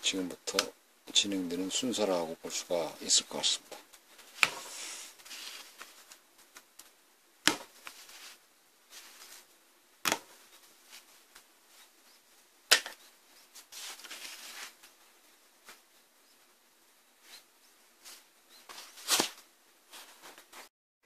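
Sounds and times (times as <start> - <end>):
soft rustling: 1.1 - 7.0, 7.6 - 20.7.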